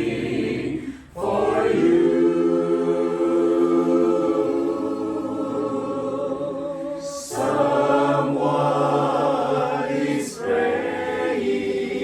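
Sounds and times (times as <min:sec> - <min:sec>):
choir singing a slow hymn: 0:00.0 - 0:12.0.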